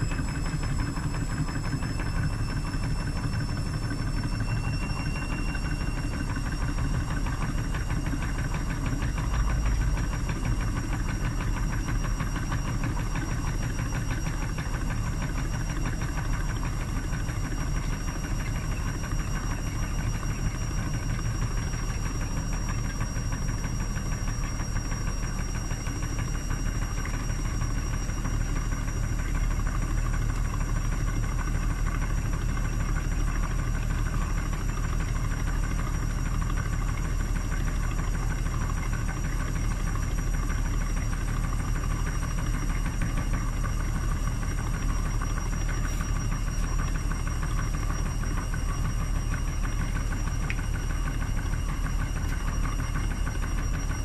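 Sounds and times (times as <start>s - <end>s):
washing machine motor running: 0.0s - 54.0s.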